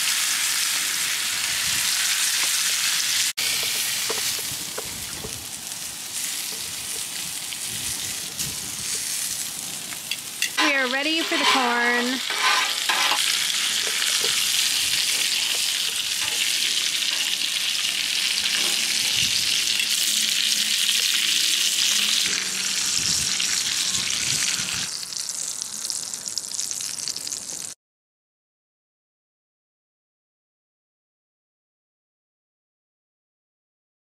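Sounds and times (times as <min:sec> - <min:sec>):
corn sizzling on a griddle: 0:00.0 - 0:27.8.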